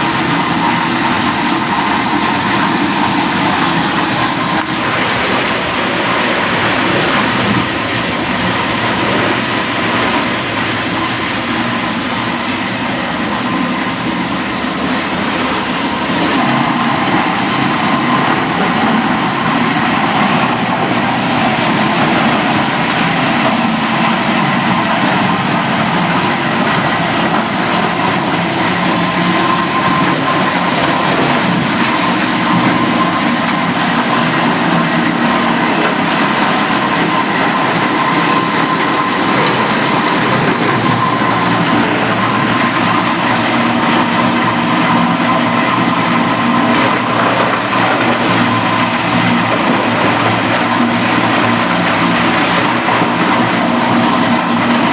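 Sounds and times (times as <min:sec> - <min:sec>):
recycling machinery running: 0:00.0 - 0:54.9.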